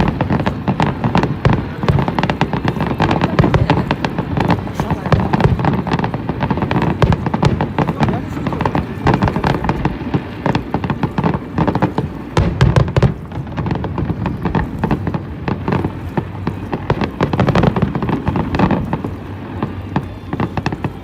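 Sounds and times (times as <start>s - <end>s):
deep firework booms: 0.0s - 21.0s
fireworks crackling: 0.0s - 21.0s.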